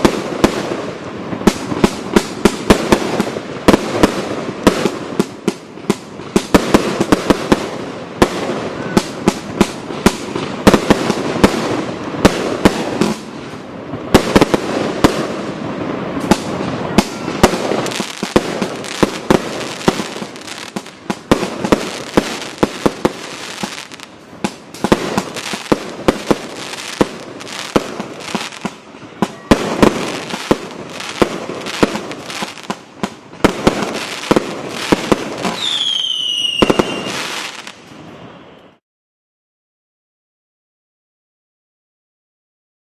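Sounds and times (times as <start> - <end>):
fireworks bangs: 0.0 - 38.5
hissing crackle of fireworks: 0.0 - 38.8.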